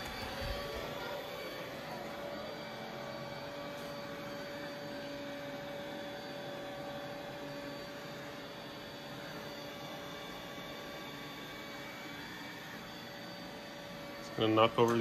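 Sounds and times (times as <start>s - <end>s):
robot vacuum whining hum: 0.0s - 15.0s.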